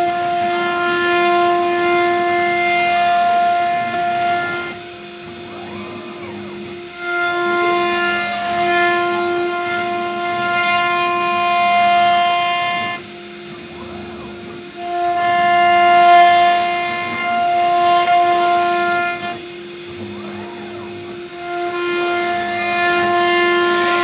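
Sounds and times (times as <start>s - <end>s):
wood router high whine: 0.0s - 24.0s.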